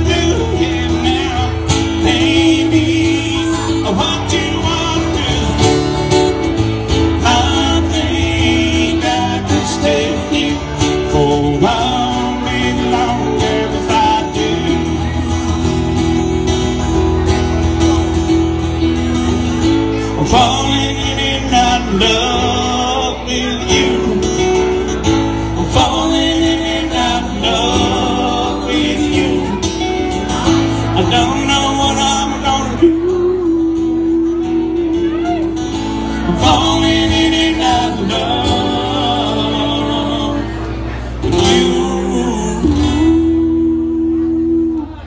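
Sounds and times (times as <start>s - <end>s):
acoustic guitar: 0.0s - 45.0s.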